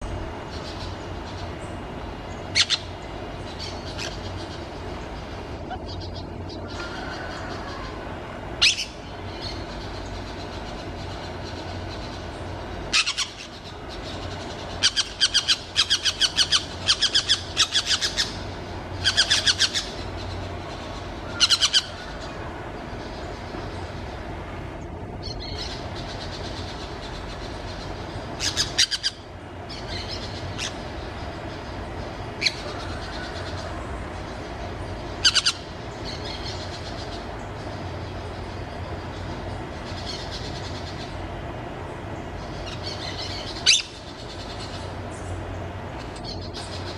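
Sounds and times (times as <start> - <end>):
low background noise: 0.0 - 46.9
parakeets chattering: 0.1 - 41.4, 42.0 - 46.9.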